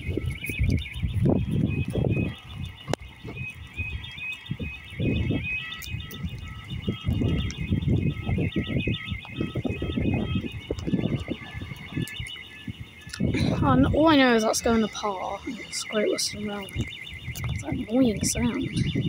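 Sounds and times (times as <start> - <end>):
high warbling alarm tone: 0.0 - 19.0
shorter lower alarm tone: 0.0 - 19.0.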